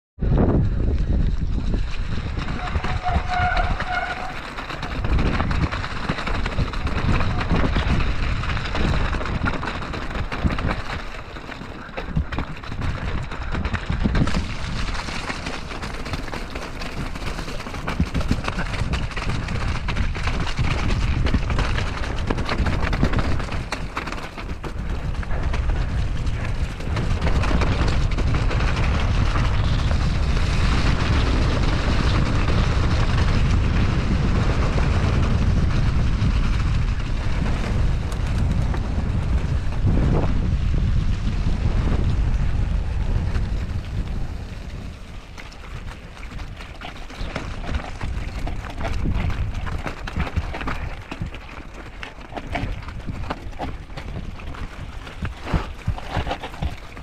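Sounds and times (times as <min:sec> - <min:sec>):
bike knocking and rattling: 0:00.2 - 0:57.0
tyres running through mud: 0:00.2 - 0:57.0
wind buffeting microphone: 0:00.2 - 0:57.0.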